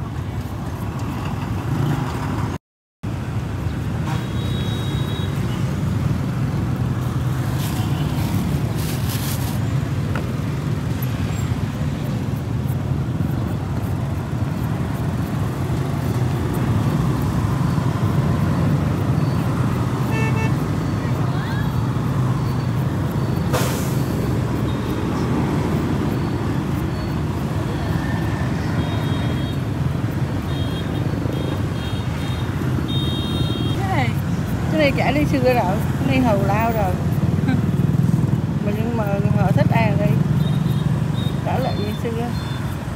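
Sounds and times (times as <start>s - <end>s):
road traffic rumble: 0.0s - 42.9s.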